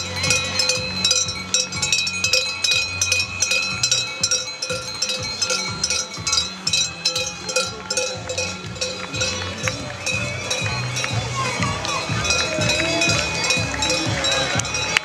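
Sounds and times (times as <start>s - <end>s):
cowbells clanging: 0.0s - 15.0s.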